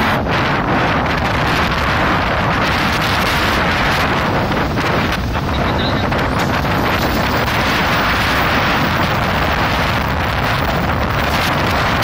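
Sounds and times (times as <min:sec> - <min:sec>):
heavy wind on microphone: 0:00.0 - 0:12.0.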